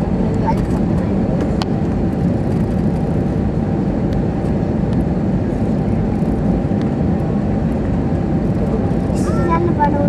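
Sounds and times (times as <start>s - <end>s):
aircraft engine drone: 0.0s - 10.0s
faint steady whine: 0.0s - 10.0s
rushing airflow: 0.0s - 10.0s.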